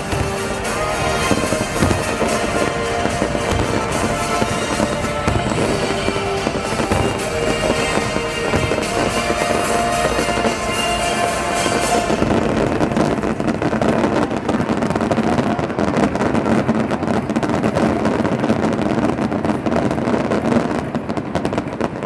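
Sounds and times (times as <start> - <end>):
fireworks bursts and crackling: 0.0 - 22.0.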